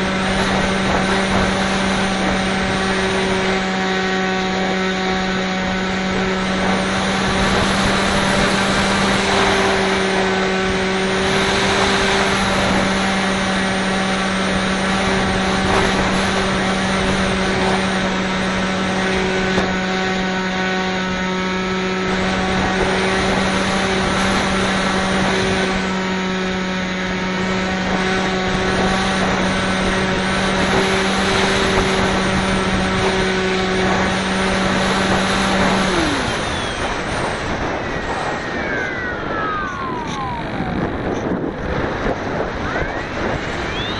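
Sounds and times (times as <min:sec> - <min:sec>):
electric motor and propeller drone: 0:00.0 - 0:43.9
wind buffeting microphone: 0:00.0 - 0:43.9.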